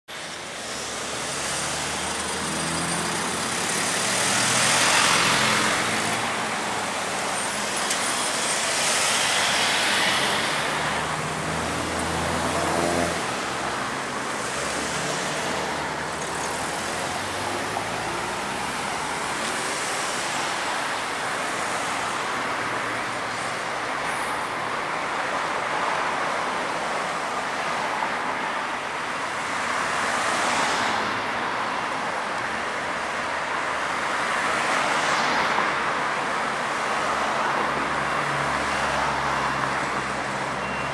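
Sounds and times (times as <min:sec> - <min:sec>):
cars passing: 0:00.1 - 0:40.9.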